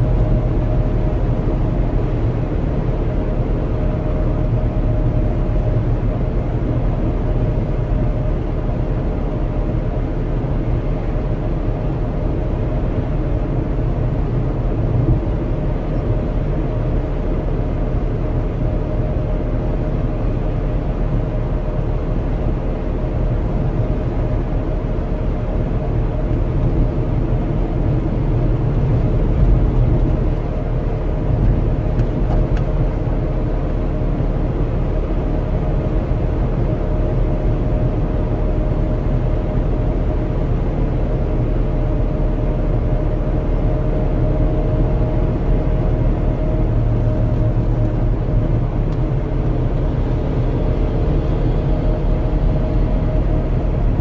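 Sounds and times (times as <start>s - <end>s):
low road rumble: 0.0s - 54.0s.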